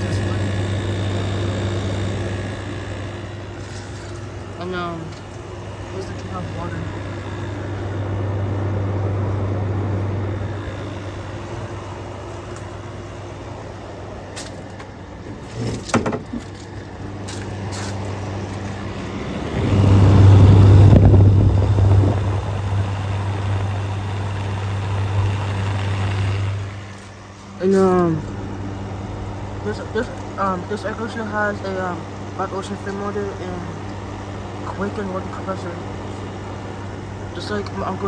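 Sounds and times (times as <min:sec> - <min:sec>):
air conditioner hum and fan: 0:00.0 - 0:38.0.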